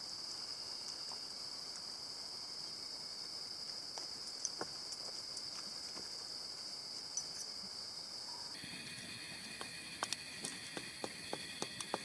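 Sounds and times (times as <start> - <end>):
faint ticks and crackles: 0.0 - 12.0
insects singing: 0.0 - 12.0.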